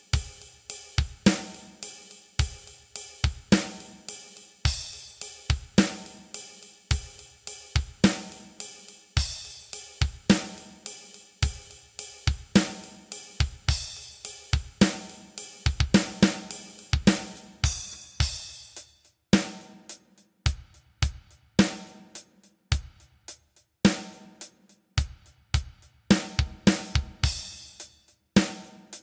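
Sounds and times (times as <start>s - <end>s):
drum kit playing a groove: 0.0s - 29.0s.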